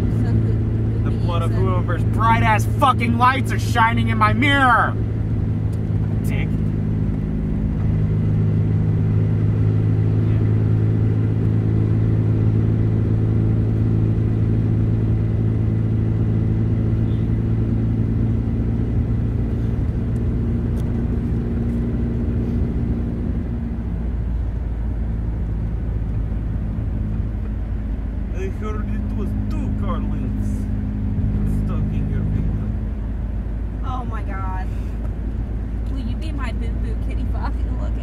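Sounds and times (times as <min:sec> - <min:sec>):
car engine drone: 0:00.0 - 0:38.0
road noise inside car: 0:00.0 - 0:38.0.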